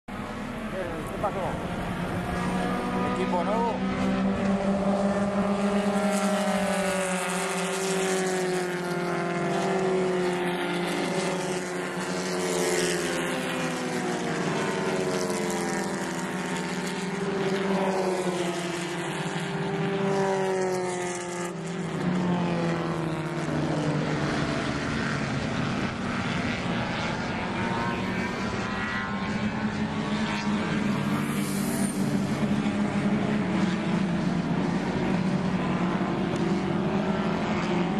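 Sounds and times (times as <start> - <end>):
low engine drone: 0.1 - 37.9
race car engines revving: 0.1 - 37.9.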